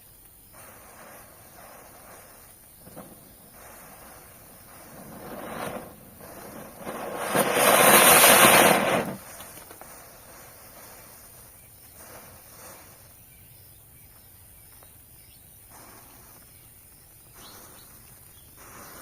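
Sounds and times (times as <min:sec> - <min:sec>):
spinner firework hissing: 0:00.0 - 0:19.0.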